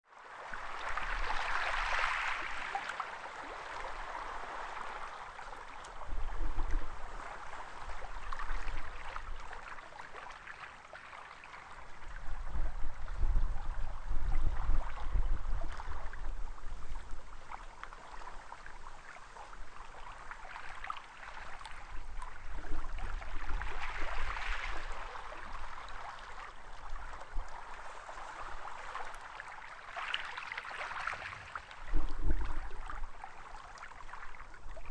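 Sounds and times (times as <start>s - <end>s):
waves washing onto sandy beach: 0.2s - 34.9s.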